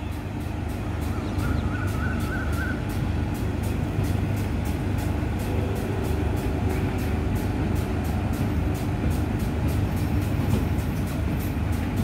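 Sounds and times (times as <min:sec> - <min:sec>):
diesel train engine rumble: 0:00.0 - 0:12.0.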